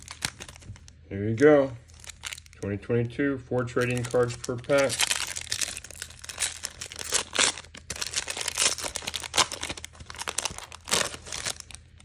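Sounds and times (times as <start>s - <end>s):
foil wrapper crinkling and tearing: 0.0s - 1.0s, 1.8s - 2.6s, 3.8s - 12.0s.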